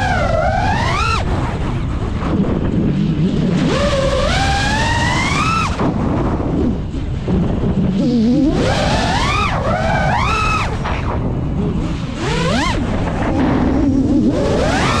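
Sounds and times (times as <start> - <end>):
drone motors whining: 0.0 - 15.0
wind rushing on microphone: 0.0 - 15.0.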